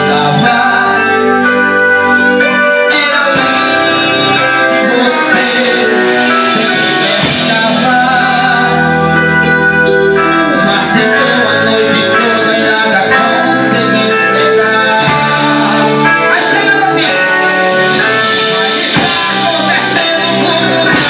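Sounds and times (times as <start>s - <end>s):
guitar: 0.0s - 21.0s
worship band playing: 0.0s - 21.0s.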